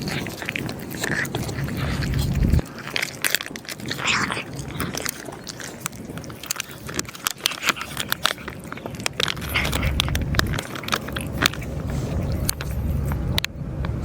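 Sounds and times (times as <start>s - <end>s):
cat chewing and crunching food: 0.0s - 14.0s.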